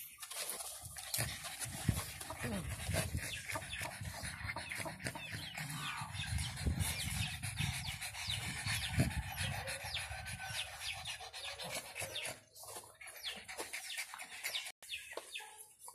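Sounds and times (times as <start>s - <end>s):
dogs panting: 0.3s - 15.9s.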